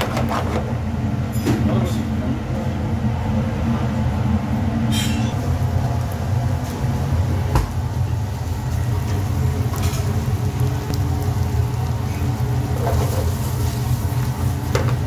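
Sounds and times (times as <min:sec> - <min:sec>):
kitchen machinery humming: 0:00.0 - 0:15.0.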